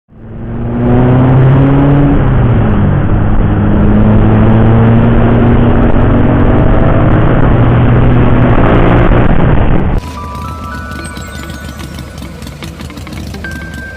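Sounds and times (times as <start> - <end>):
vehicle engine running hard: 0.1 - 13.9.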